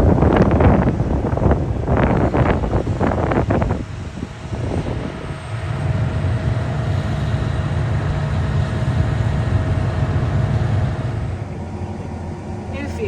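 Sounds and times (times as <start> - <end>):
vehicle engine droning: 0.0 - 13.0
wind gusts on microphone: 0.0 - 13.0.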